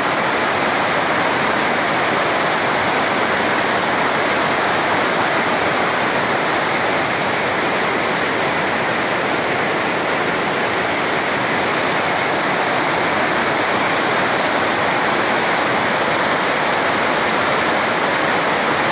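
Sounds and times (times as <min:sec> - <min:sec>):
river rapids rushing over rocks: 0:00.0 - 0:18.9.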